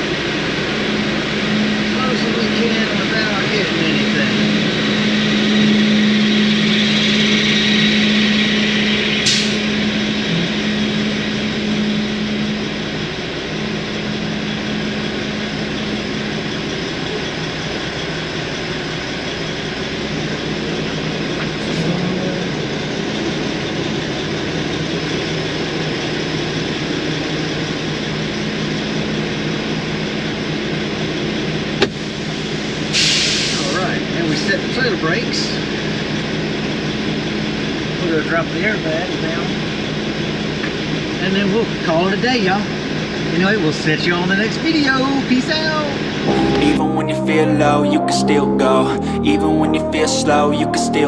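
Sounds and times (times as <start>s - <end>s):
truck diesel engine humming: 0.0s - 51.0s.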